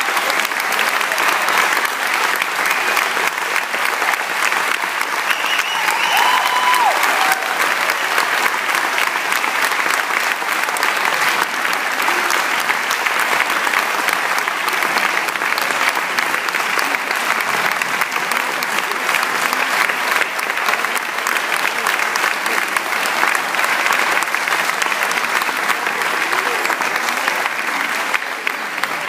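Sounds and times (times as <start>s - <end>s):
audience applauding: 0.0s - 29.0s.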